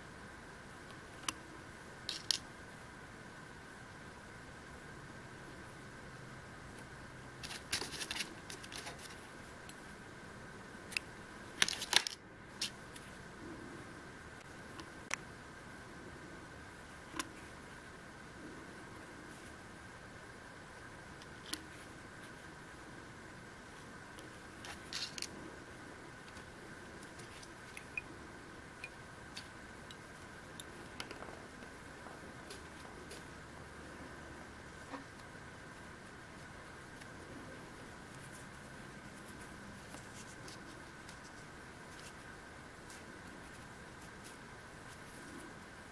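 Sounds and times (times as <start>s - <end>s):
faint steady high hum: 0.0s - 45.9s.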